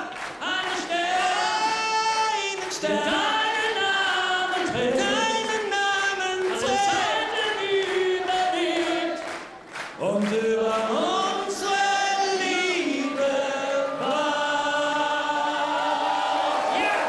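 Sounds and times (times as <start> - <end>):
several voices singing: 0.0 - 17.0.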